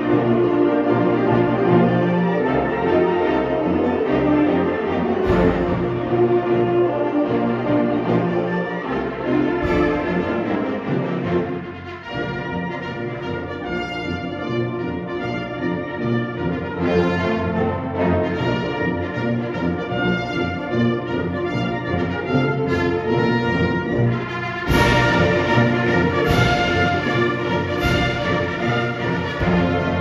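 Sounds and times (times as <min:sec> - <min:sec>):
brass instruments: 0:00.0 - 0:30.0.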